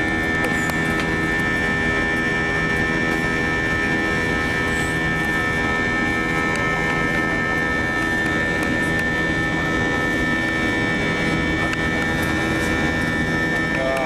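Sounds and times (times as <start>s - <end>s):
jet engine and airflow noise: 0.0s - 14.0s.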